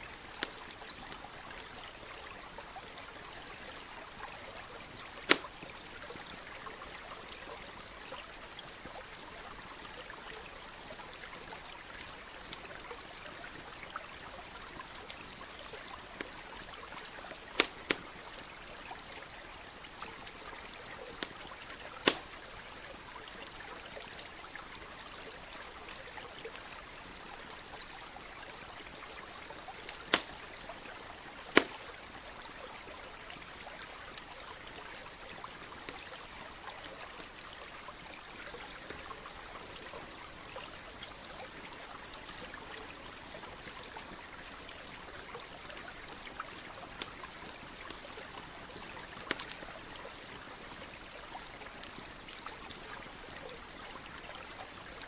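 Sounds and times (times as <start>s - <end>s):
campfire crackling and popping: 0.0s - 55.0s
small stream trickling: 0.0s - 55.0s.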